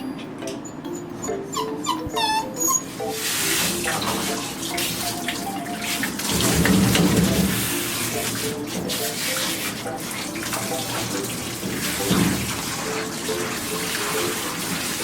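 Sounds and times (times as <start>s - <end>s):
mallet percussion music: 0.0s - 15.0s
shower spraying water: 2.6s - 15.0s.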